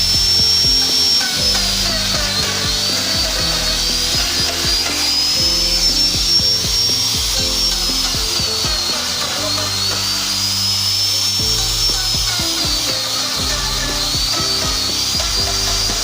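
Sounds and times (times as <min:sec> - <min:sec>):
background music: 0:00.0 - 0:16.0
power tool whining cutting wood: 0:00.0 - 0:16.0.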